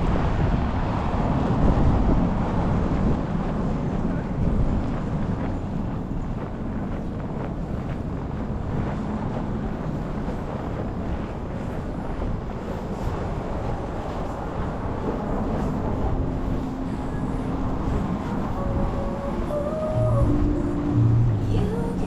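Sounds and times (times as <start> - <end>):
low traffic rumble: 0.0 - 22.0
wind buffeting microphone: 0.0 - 22.0.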